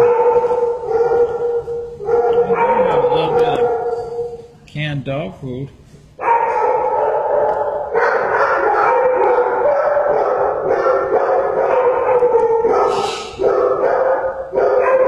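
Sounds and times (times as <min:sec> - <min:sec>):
dogs barking and howling: 0:00.0 - 0:04.6, 0:06.2 - 0:15.0.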